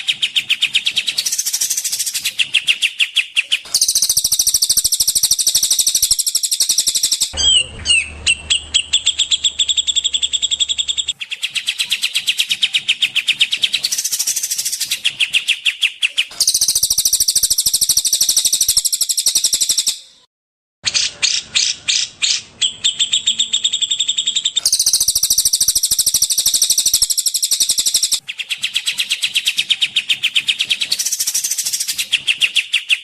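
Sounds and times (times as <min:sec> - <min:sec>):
songbird chirps and trills: 0:00.0 - 0:20.3, 0:20.9 - 0:33.0.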